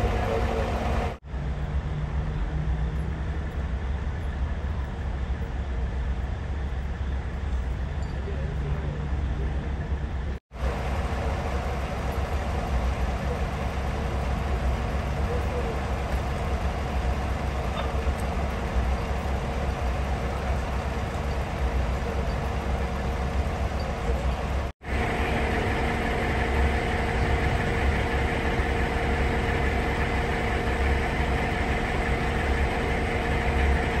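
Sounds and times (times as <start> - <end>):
diesel engine idling: 0.0 - 7.8, 8.4 - 34.0.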